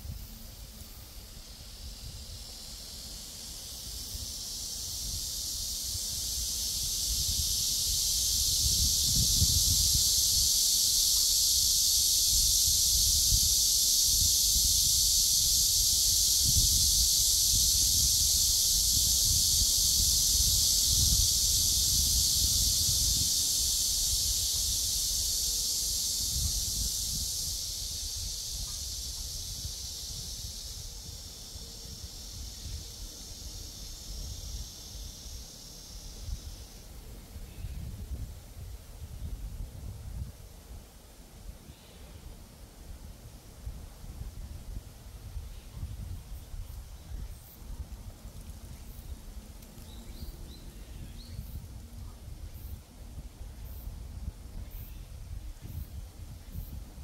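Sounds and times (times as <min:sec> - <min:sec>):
cicadas buzzing: 0:00.0 - 0:57.0
wind rumbling on microphone: 0:03.9 - 0:36.7, 0:37.3 - 0:40.9, 0:42.9 - 0:57.0.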